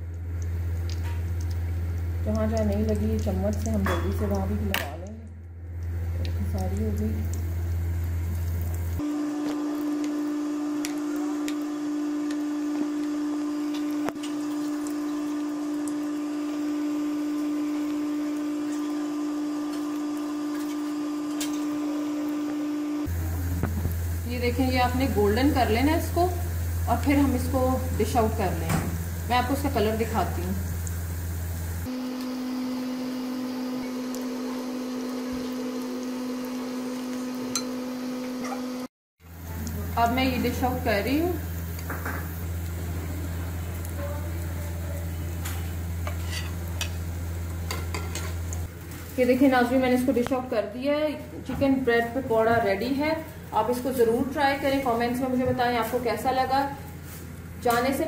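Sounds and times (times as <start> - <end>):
oil frying hiss: 0.0 - 5.1, 5.8 - 38.0, 39.2 - 58.0
steady machine hum: 0.0 - 58.0.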